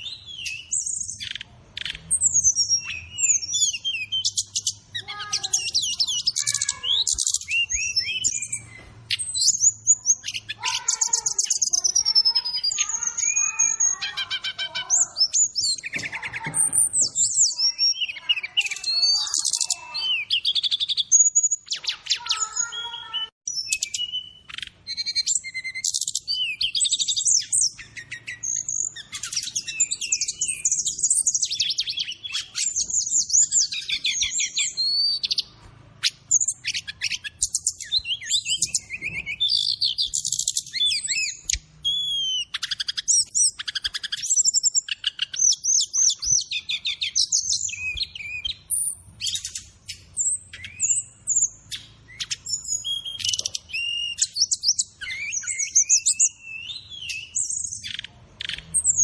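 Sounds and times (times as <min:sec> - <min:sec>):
bird warbling song: 0:00.0 - 0:59.0.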